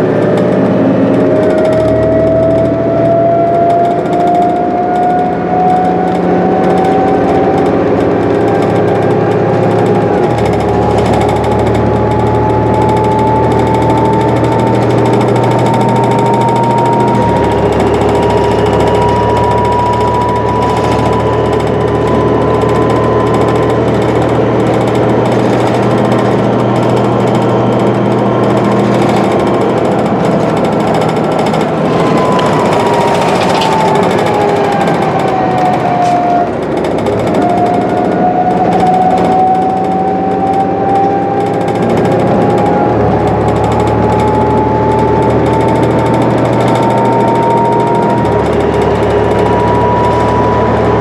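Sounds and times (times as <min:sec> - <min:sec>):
bus diesel engine droning: 0:00.0 - 0:51.0
rattling: 0:00.0 - 0:51.0
road noise: 0:00.0 - 0:51.0
thin whine rising in pitch: 0:00.0 - 0:51.0.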